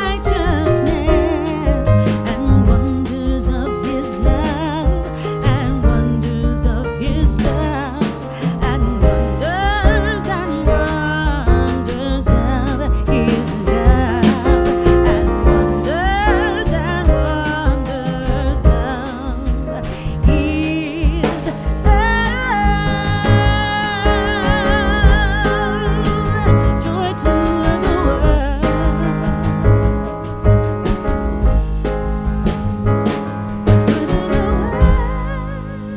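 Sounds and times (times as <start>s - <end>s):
song with vocals and band: 0.0s - 35.9s.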